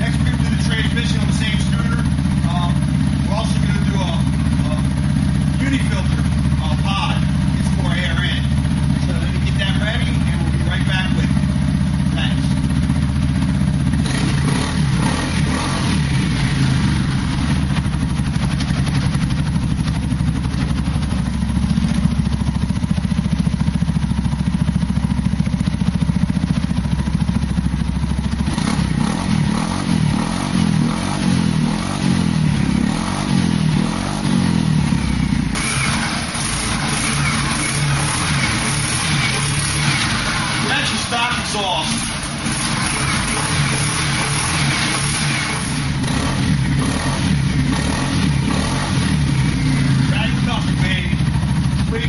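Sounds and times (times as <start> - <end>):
scooter engine idling and revving: 0.0 - 52.0.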